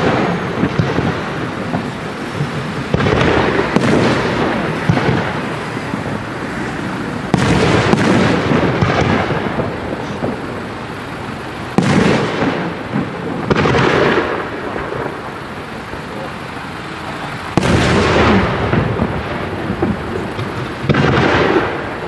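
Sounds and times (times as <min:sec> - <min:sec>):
firework bangs: 0:00.0 - 0:22.0
rumbling din of fireworks: 0:00.0 - 0:22.0.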